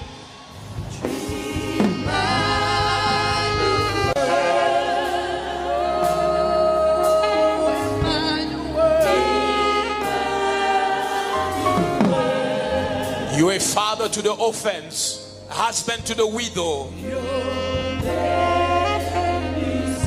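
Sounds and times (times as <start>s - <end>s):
choir singing gospel: 0.0s - 20.0s
instrumental backing with bass: 0.0s - 20.0s.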